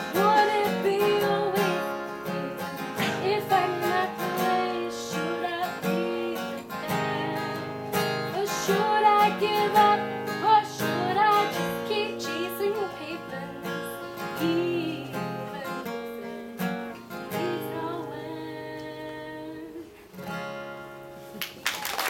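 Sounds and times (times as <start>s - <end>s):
woman singing: 0.0s - 20.1s
acoustic guitar: 0.0s - 21.6s.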